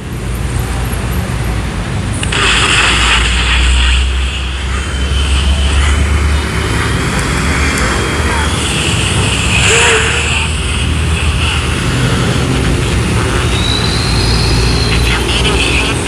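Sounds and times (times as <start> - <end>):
radio static hiss: 2.1 - 16.0.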